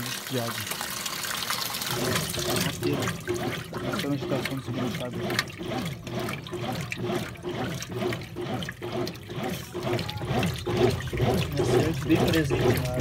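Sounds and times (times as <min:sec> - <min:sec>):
washing machine agitating: 0:00.0 - 0:13.0
water sloshing and churning: 0:00.0 - 0:13.0.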